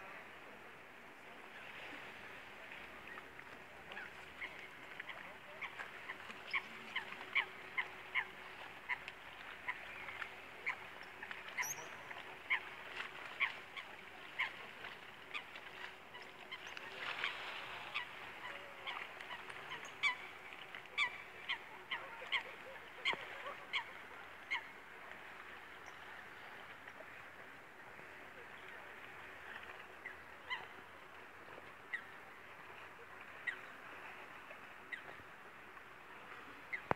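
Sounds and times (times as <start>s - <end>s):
waterbirds calling: 1.2s - 36.9s.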